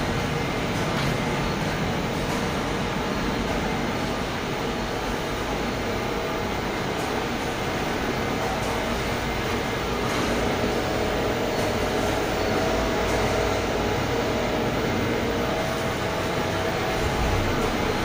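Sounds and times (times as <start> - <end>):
cooling fans whirring: 0.0 - 18.0
electrical hum: 0.0 - 18.0.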